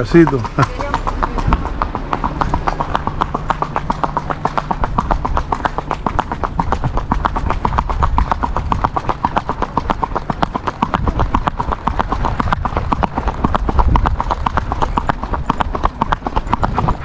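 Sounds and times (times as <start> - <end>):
hooves clip-clopping on asphalt: 0.0 - 17.0.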